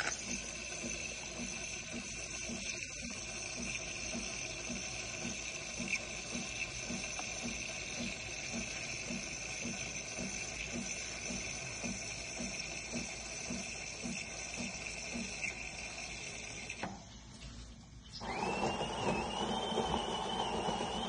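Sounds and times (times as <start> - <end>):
coffee machine frothing milk: 0.0 - 16.9, 18.2 - 21.0.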